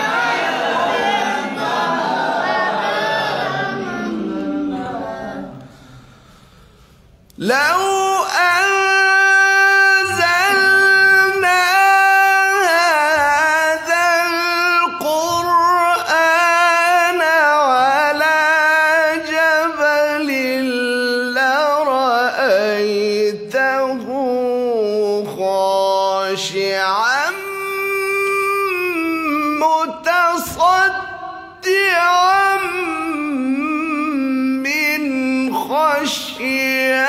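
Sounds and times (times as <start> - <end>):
man reciting melodically: 2.4 - 37.0.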